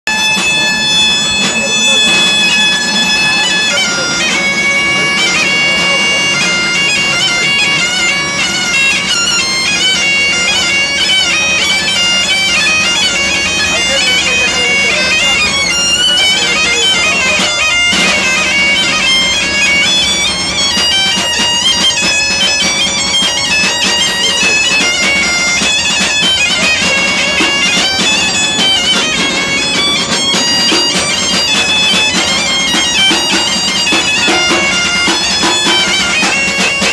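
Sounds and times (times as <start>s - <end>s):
bagpipe melody over a drone: 0.0s - 36.9s.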